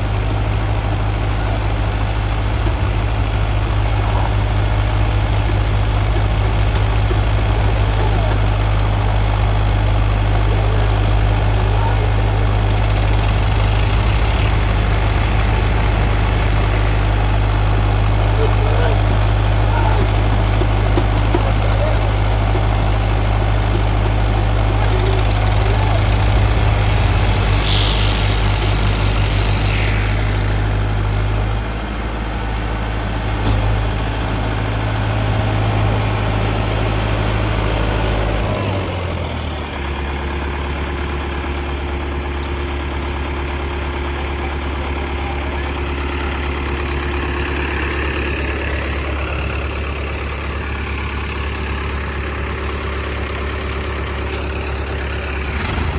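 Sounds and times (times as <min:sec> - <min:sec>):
tractor diesel engines running: 0:00.0 - 0:55.9.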